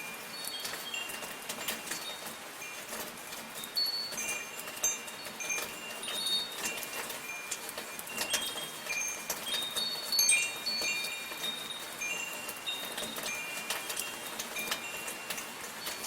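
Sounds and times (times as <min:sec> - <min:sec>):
light rain patter: 0:00.0 - 0:16.0
metal wind chimes ringing: 0:00.0 - 0:16.0.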